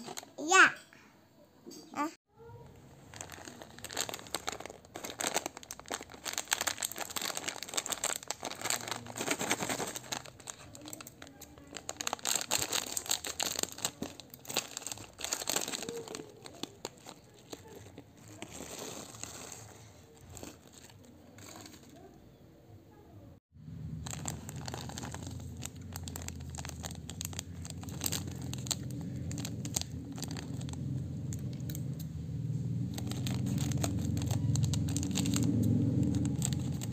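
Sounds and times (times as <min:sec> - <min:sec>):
snack packet crinkling: 0:02.9 - 0:22.1, 0:23.9 - 0:32.1, 0:32.8 - 0:36.9.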